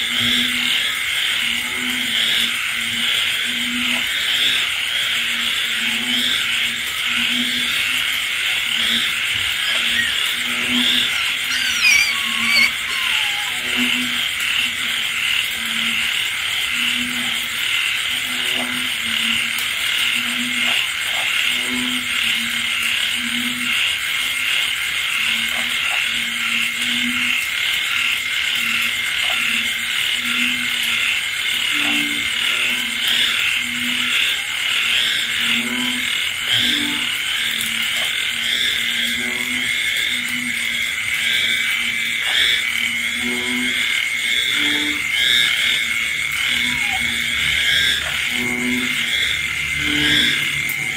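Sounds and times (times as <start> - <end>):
frog croaking low: 0.0 - 23.9, 28.6 - 50.9
frogs and insects trilling: 0.0 - 50.9.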